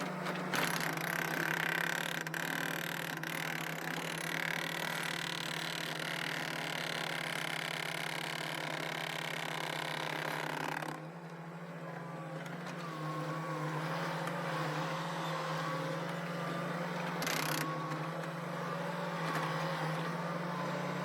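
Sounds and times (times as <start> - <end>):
small machine engine running: 0.0 - 11.1, 11.7 - 21.0.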